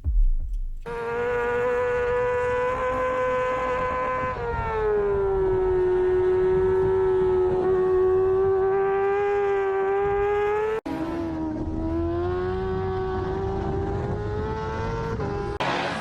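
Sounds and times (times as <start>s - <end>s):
racing motorcycle engine revving: 0.8s - 16.0s.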